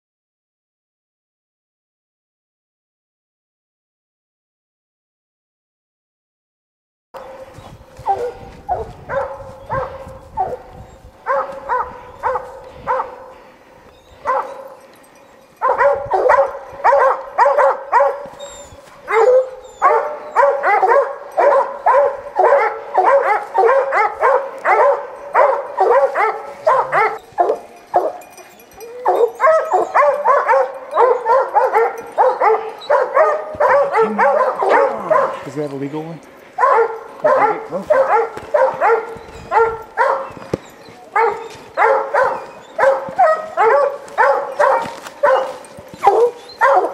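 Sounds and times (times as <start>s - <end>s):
hounds barking: 7.2s - 46.9s.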